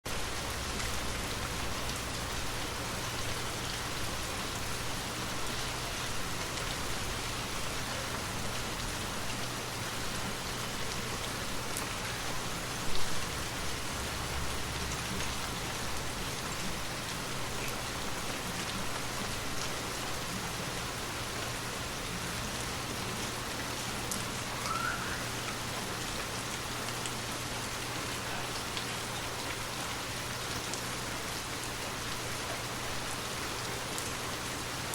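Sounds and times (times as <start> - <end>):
light rain patter: 0.1 - 34.9.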